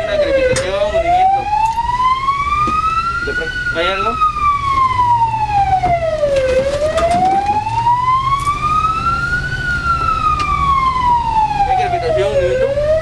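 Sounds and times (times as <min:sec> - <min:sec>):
ambulance siren wailing: 0:00.0 - 0:13.0
engine and road rumble: 0:00.0 - 0:13.0.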